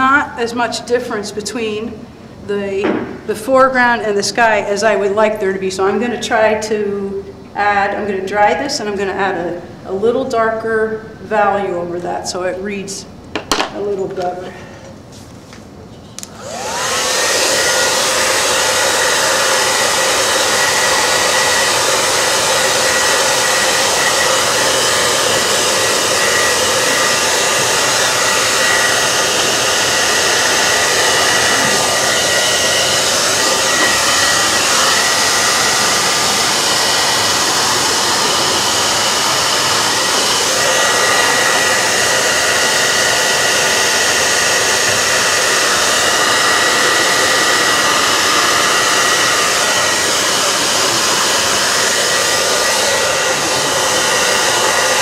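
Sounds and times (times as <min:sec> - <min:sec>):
hair dryer whine and airflow: 0:00.0 - 0:07.2, 0:07.8 - 0:12.7, 0:16.2 - 0:55.0.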